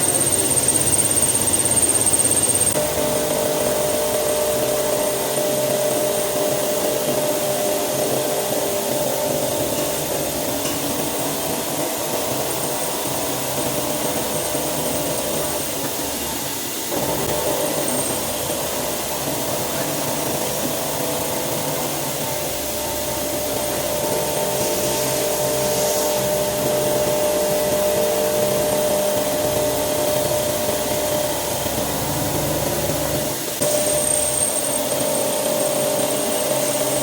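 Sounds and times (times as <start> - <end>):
milling machine cutting steel: 0.0 - 37.0.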